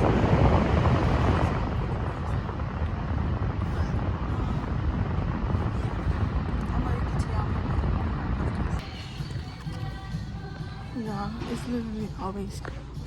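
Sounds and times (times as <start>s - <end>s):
fan air buffeting: 0.0s - 13.0s.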